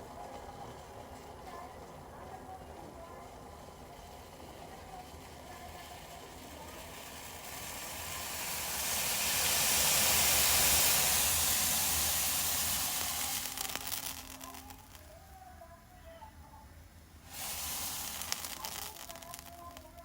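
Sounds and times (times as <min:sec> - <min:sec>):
crackling: 0:00.0 - 0:16.1, 0:17.1 - 0:20.0
tea boiling with hiss: 0:00.0 - 0:20.0.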